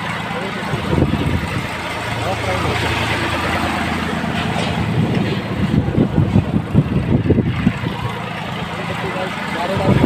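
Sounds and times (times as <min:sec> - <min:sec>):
engine drone: 0:00.0 - 0:10.0
metal gondolas rattling and clanking: 0:00.0 - 0:10.0.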